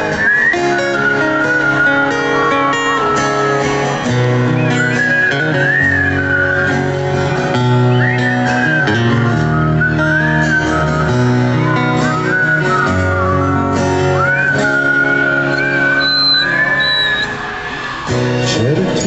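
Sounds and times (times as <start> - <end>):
sliding guitar lead melody: 0.0 - 19.0.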